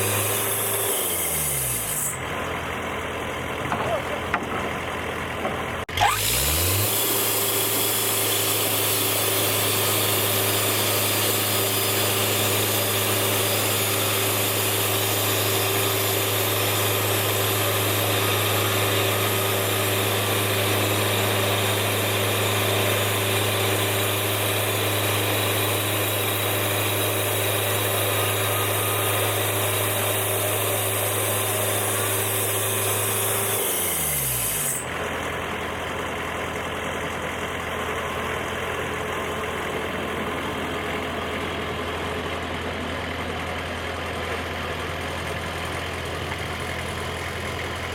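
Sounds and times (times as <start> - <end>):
saw cutting through log: 0.0 - 41.6
sawmill engine revving: 0.0 - 47.9.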